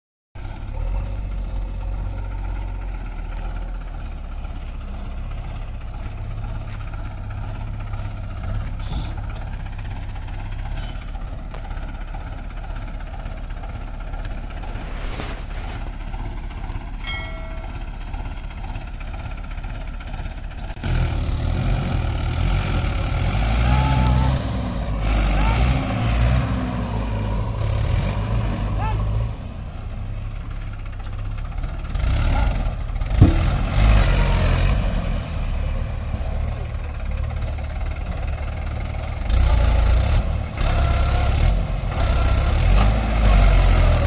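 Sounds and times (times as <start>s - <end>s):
diesel engine rumbling: 0.4s - 44.0s.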